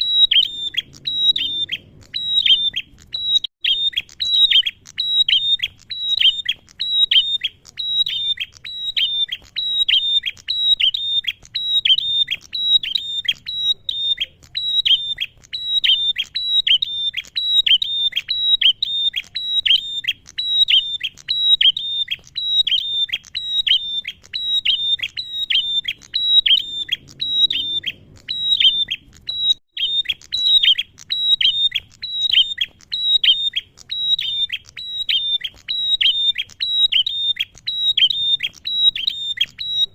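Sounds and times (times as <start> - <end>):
bird calling sharp high notes: 0.0 - 39.9.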